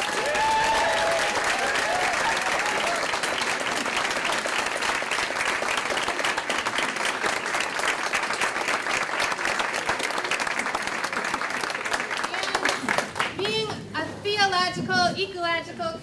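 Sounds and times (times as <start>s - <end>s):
people applauding: 0.0s - 13.7s.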